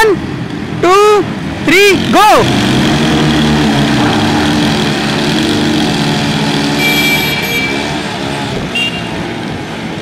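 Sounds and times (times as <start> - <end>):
motorcycle engines running hard: 0.0 - 10.0.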